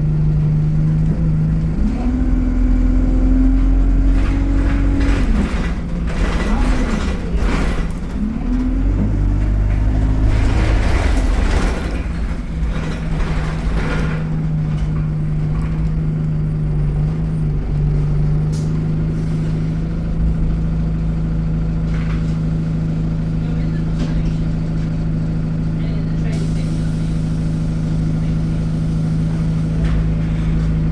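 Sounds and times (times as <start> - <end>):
bus diesel engine idling: 0.0 - 30.9.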